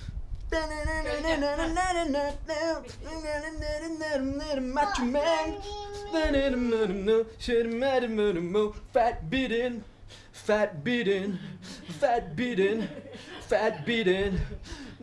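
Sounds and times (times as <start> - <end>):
person singing wordless tune: 0.5 - 15.0.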